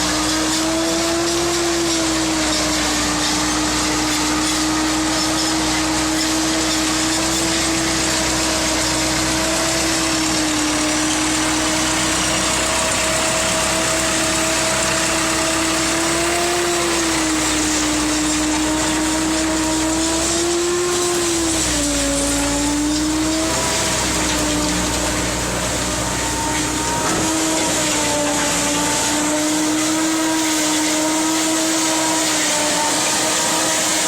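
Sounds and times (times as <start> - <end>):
constant high whine: 0.0 - 34.0
tractor engine and machine noise: 0.0 - 34.0.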